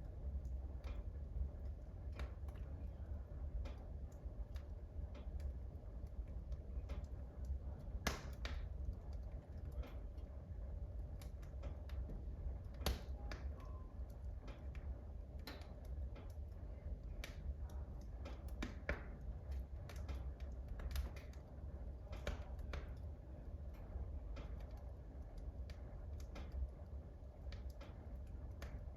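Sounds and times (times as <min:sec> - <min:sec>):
low steady rumble: 0:00.0 - 0:28.9
wood fire crackling and popping: 0:00.0 - 0:28.9.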